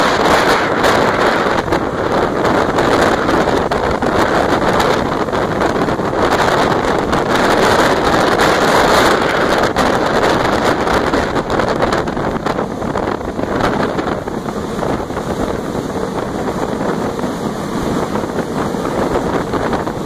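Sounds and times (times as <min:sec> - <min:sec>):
moving train rolling: 0:00.0 - 0:20.0
wind buffeting microphone: 0:00.0 - 0:20.0.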